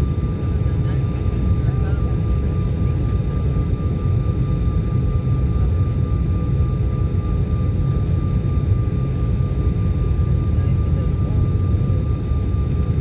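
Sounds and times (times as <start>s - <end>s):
jet airliner rumble: 0.0s - 13.0s.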